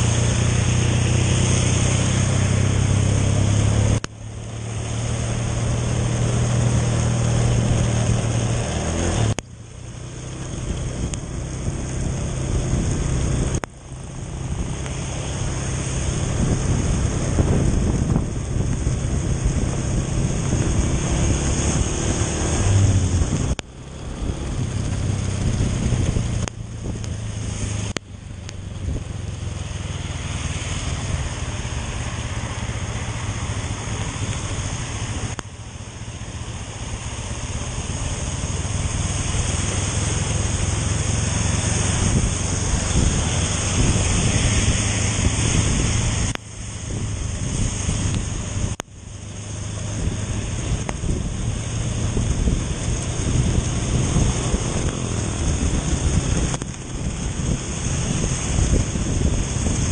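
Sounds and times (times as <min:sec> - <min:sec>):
wind and rain noise: 0:00.0 - 0:59.9.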